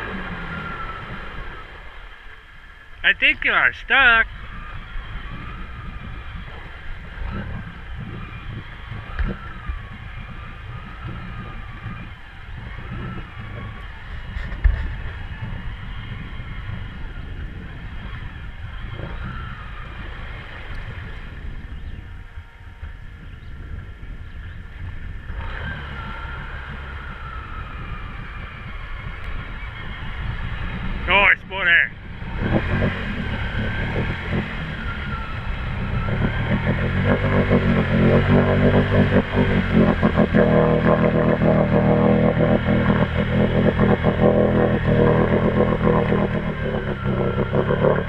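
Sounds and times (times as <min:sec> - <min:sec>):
atv engine revving: 0:00.0 - 0:48.0
tires churning through water: 0:00.0 - 0:48.0.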